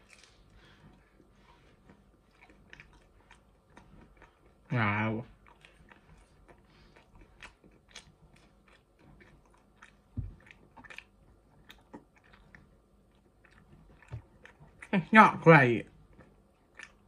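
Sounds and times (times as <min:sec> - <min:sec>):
mouth chewing clicks and smacks: 0:00.0 - 0:15.0, 0:15.8 - 0:17.0.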